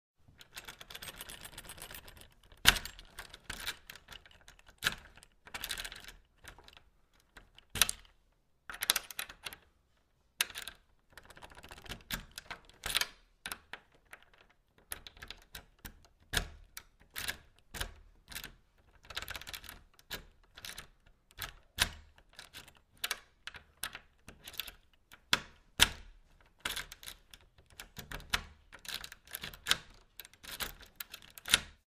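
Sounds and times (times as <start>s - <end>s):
key clicking and rattling in lock: 0.4s - 8.1s, 10.4s - 31.8s
key scraping in lock: 0.4s - 8.1s, 10.4s - 31.8s.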